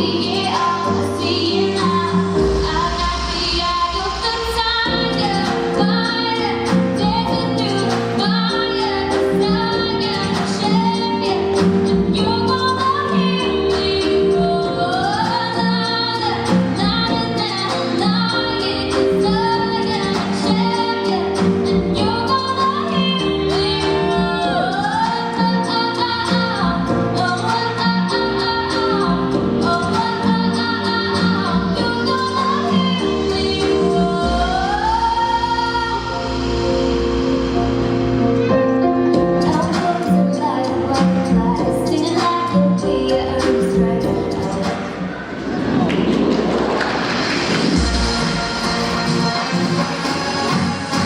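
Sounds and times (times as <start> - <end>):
girl singing pop song: 0.0 - 36.7, 38.4 - 45.2
recorded backing track: 0.0 - 51.0.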